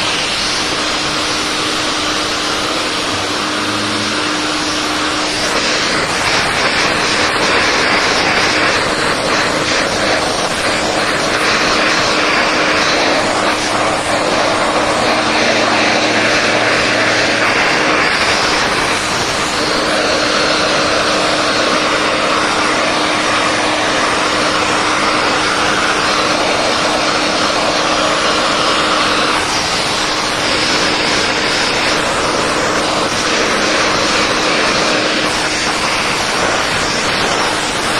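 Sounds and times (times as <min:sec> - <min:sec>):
central vacuum running: 0:00.0 - 0:37.9.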